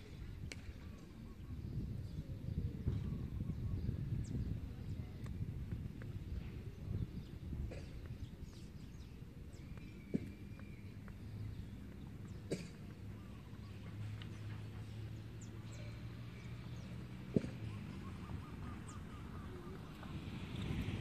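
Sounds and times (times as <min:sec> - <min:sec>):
wind rumble on microphone: 0:00.0 - 0:12.3, 0:13.7 - 0:21.0.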